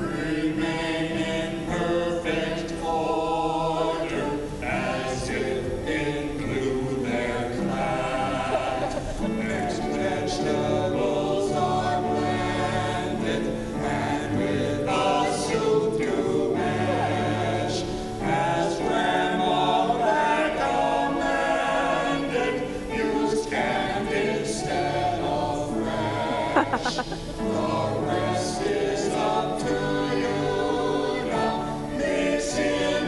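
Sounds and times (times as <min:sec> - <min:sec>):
choir singing gospel song: 0:00.0 - 0:33.0.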